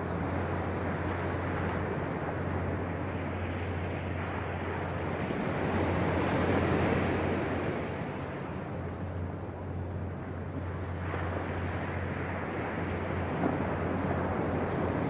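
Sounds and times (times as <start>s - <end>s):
sea waves washing up a beach: 0.0s - 15.0s.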